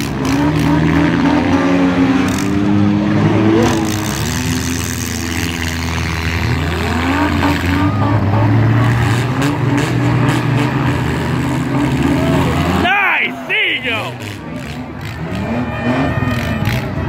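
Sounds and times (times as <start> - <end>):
car engines running and revving: 0.0 - 17.0.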